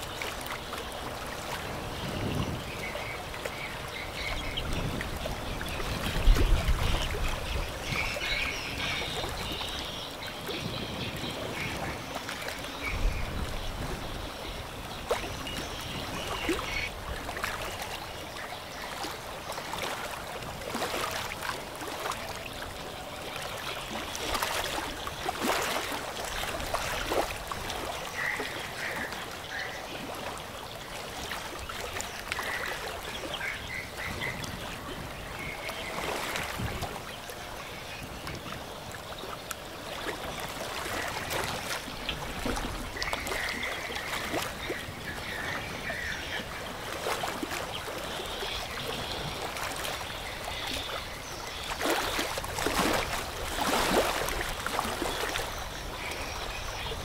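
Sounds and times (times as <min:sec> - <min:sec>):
water rushing in bow wave: 0:00.0 - 0:57.0.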